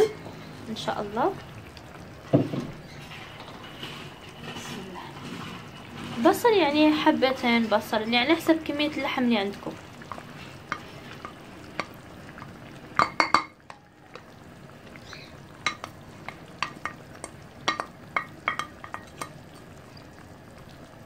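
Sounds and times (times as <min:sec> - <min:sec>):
meat and onions sizzling: 0:00.0 - 0:21.0.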